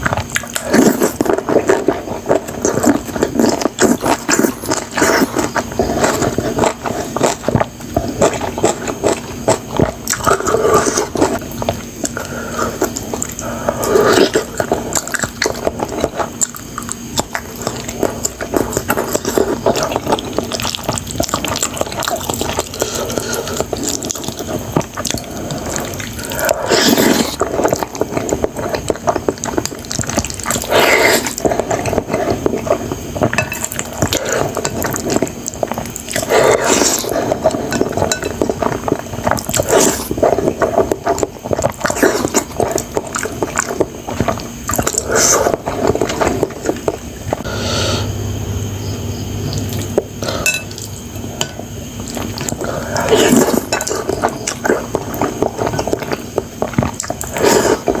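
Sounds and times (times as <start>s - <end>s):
wet chewing and slurping: 0.0s - 47.5s, 49.5s - 58.0s.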